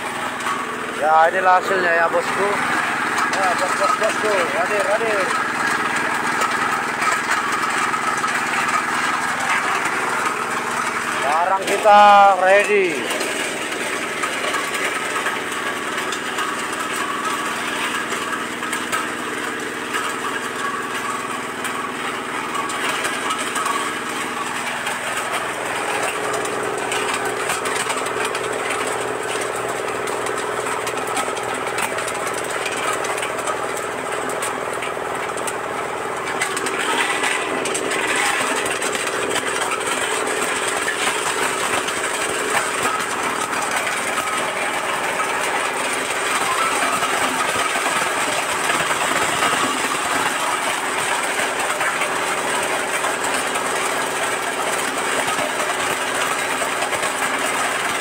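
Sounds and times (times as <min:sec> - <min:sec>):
diesel engine running: 0:00.0 - 0:58.0
nut cracking machine running: 0:00.0 - 0:58.0.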